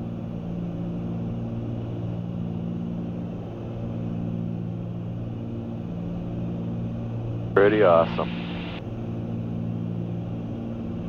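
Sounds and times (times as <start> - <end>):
aircraft engines droning in cabin: 0.0 - 11.0.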